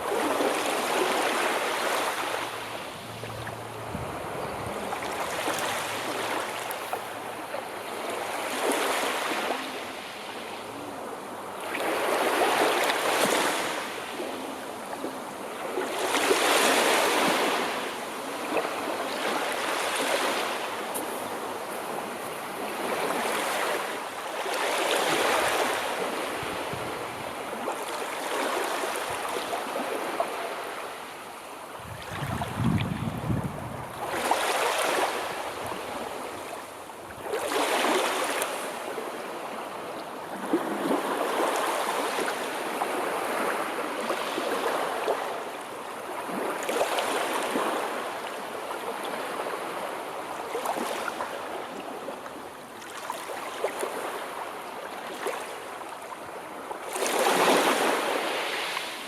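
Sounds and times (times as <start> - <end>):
sea waves breaking: 0.0 - 59.0.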